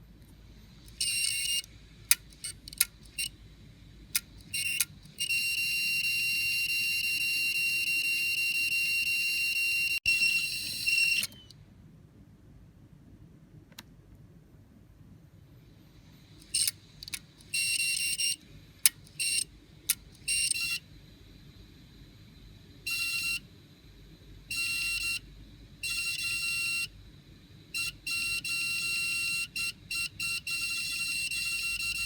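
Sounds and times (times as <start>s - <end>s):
hard drive high-pitched tone: 0.5s - 11.5s, 15.8s - 19.6s, 20.2s - 32.0s.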